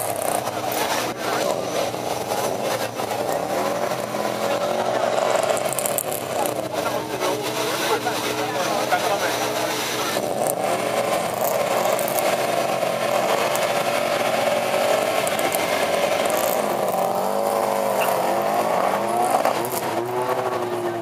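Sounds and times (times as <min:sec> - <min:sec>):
car engines revving and accelerating: 0:00.0 - 0:21.0.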